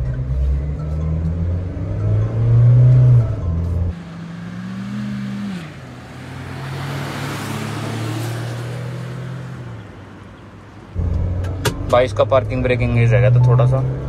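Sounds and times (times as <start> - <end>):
cars accelerating past: 0.0 - 12.1
diesel engine revving: 0.0 - 14.0.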